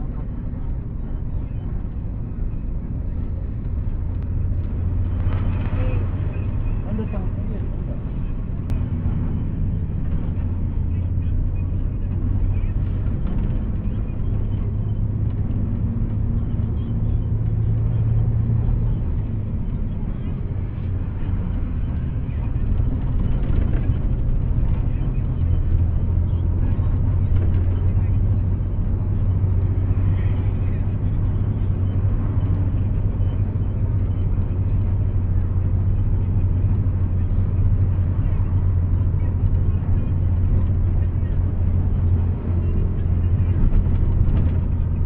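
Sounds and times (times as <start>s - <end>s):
bus diesel engine drone: 0.0s - 45.0s
road rumble: 0.0s - 45.0s.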